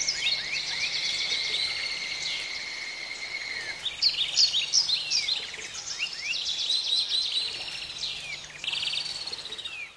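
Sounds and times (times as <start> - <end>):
wild birds chirping: 0.0 - 9.9.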